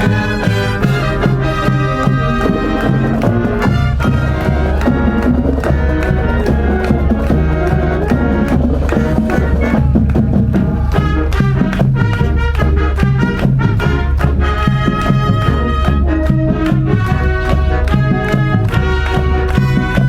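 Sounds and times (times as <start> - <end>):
brass: 0.0 - 20.0
low bass line: 0.0 - 20.0
steady drum beat: 0.0 - 20.0.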